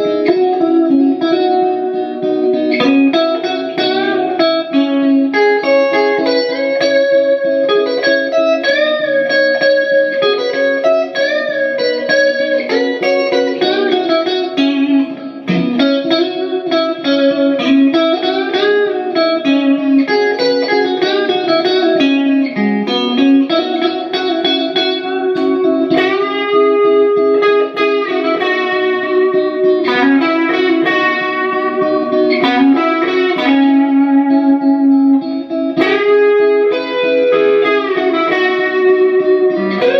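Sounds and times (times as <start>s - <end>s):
electric guitar through amplifier: 0.0s - 39.9s.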